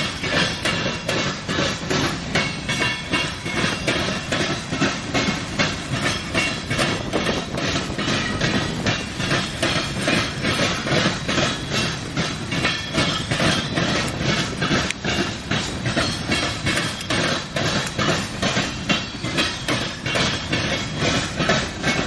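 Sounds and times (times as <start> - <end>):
freight train rumble: 0.0 - 22.0
train wheels clicking over rail joints: 0.0 - 22.0.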